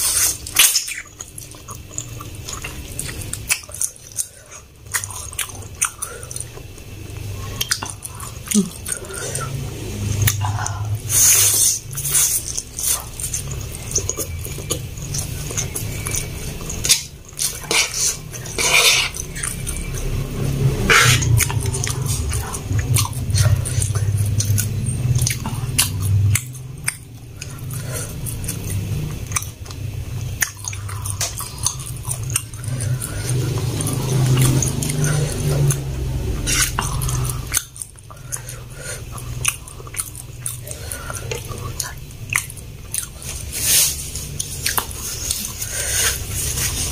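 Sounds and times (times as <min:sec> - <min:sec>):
chewing noodles: 0:00.0 - 0:46.9
steady low hum: 0:00.0 - 0:46.9.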